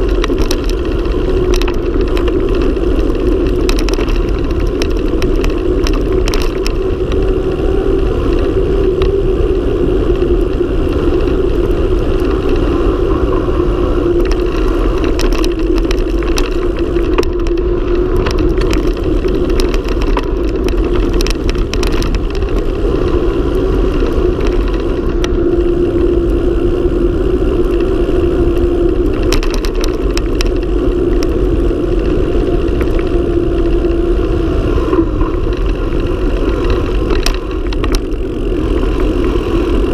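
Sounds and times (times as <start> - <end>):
bike clicks and knocks: 0.0 - 39.9
tyres humming on road: 0.0 - 39.9
wind on microphone: 0.0 - 39.9.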